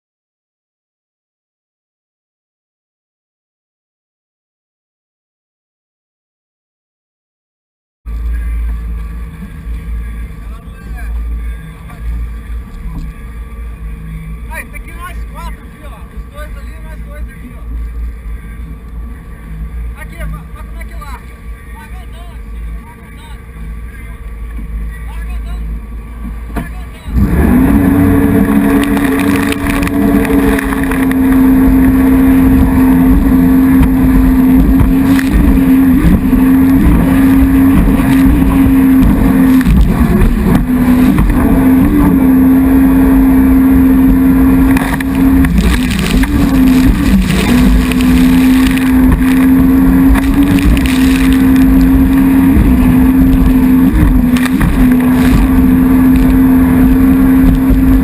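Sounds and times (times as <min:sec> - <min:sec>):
jet ski engine revving: 0:08.1 - 0:58.0
water noise: 0:08.1 - 0:58.0
wind: 0:08.1 - 0:58.0.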